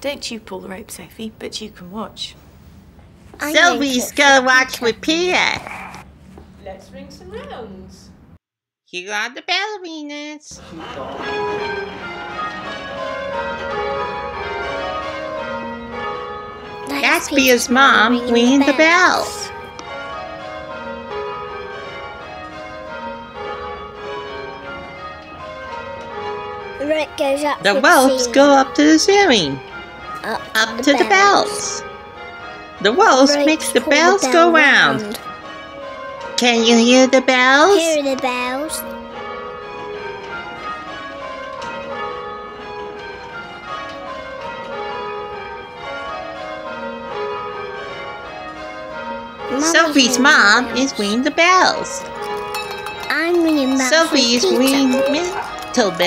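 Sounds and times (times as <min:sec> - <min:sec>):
church bells change-ringing: 0:03.4 - 0:05.3, 0:10.6 - 0:56.0.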